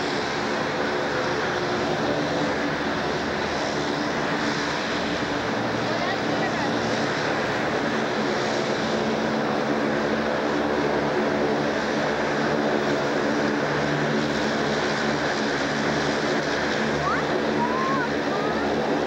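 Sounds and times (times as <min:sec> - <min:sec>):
airliner engines running: 0:00.0 - 0:19.0.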